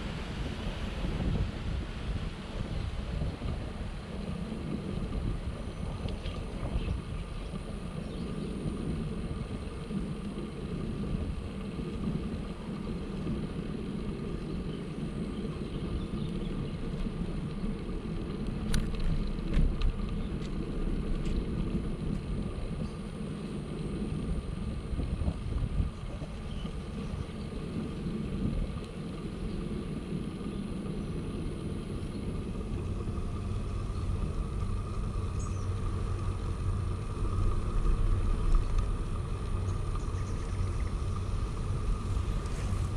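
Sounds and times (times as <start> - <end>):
bicycle road noise: 0.0 - 42.9
wind on microphone: 0.0 - 42.9.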